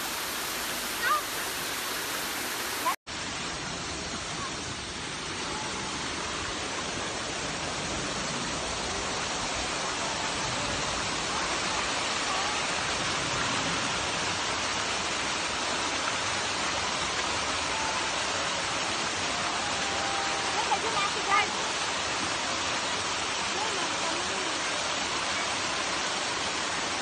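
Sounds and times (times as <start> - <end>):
waterfall rushing over rocks: 0.0 - 27.0.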